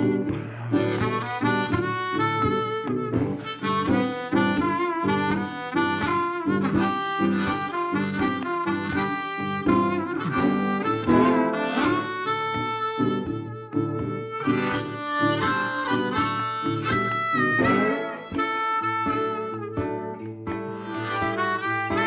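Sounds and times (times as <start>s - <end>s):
harmonica playing bluesy tune: 0.0s - 22.0s
rhythmic accompaniment: 0.0s - 22.0s.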